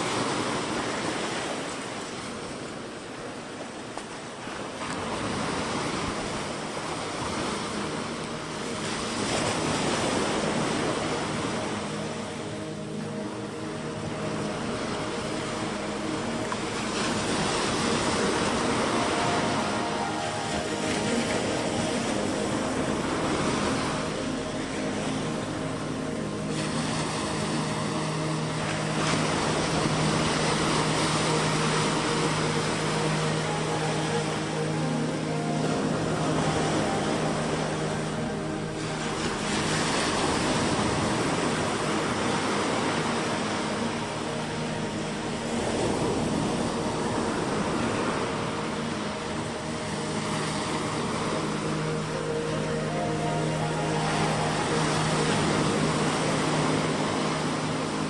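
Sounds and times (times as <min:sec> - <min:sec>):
boat engine droning: 0:00.0 - 0:58.0
faint steady hum: 0:00.0 - 0:58.0
rushing wind: 0:00.0 - 0:58.0
sea waves washing ashore: 0:00.0 - 0:58.0
water noise: 0:00.0 - 0:58.0.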